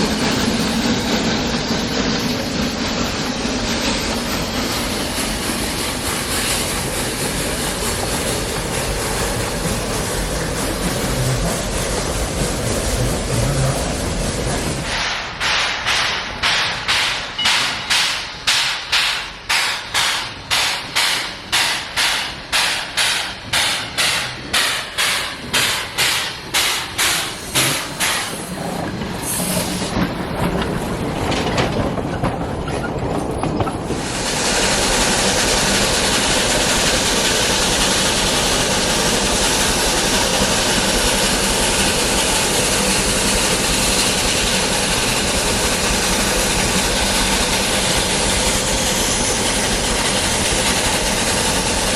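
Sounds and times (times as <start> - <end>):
loud rushing steam hiss: 0.0 - 30.8, 33.8 - 51.9
steam locomotive chuffing: 0.0 - 51.9.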